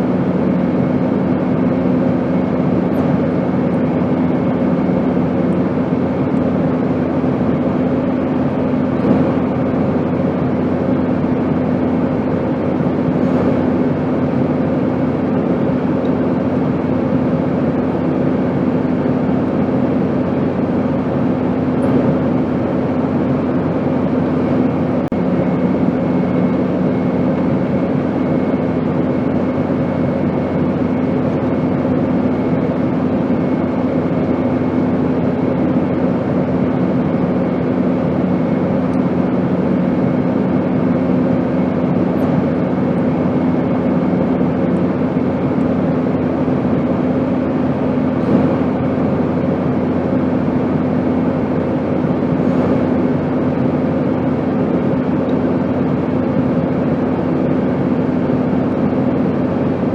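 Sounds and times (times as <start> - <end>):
airplane rushing drone: 0.0 - 59.9
low hum: 0.0 - 59.9.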